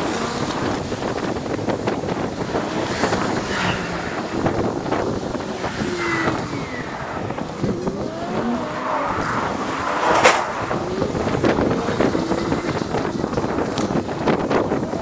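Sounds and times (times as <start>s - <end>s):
passing vehicles: 0.0s - 15.0s
road and wind noise: 0.0s - 15.0s.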